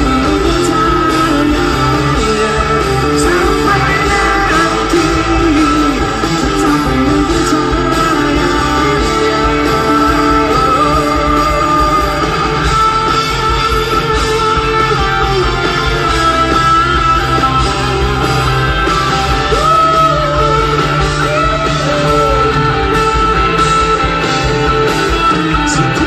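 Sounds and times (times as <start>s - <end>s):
drums: 0.0s - 26.0s
electric guitars: 0.0s - 26.0s.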